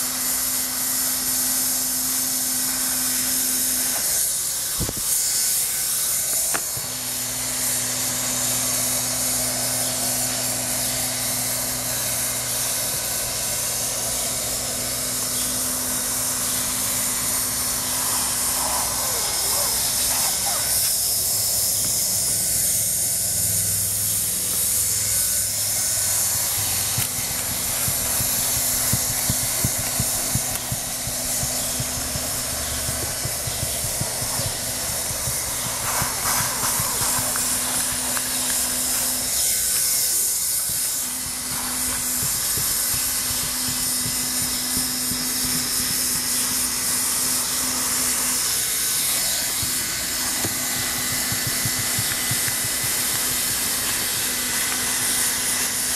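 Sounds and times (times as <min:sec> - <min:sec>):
hot-air welding gun hissing: 0:00.0 - 0:55.9.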